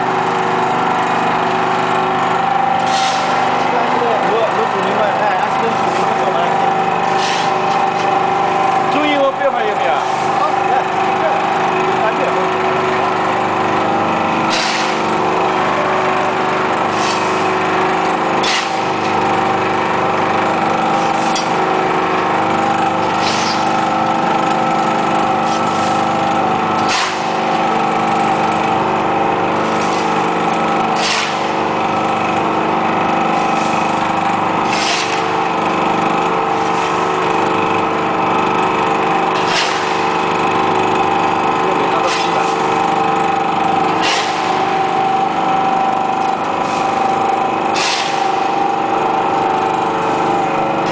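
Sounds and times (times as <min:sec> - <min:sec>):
hydraulic press motor humming: 0:00.0 - 0:50.9.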